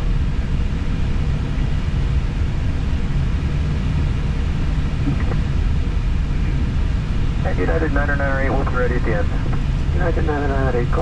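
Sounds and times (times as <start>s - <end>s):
airplane taxiing rumble: 0.0s - 11.0s.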